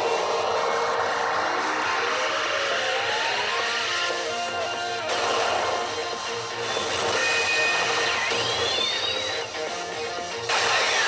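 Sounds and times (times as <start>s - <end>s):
electronic pachinko music: 0.0s - 11.0s.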